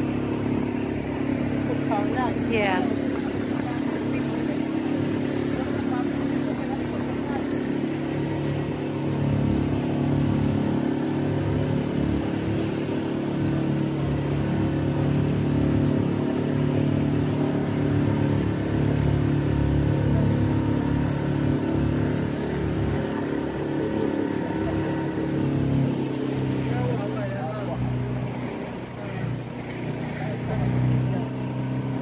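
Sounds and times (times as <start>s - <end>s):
boat engine droning: 0.0s - 32.0s
water and wind noise: 0.0s - 32.0s.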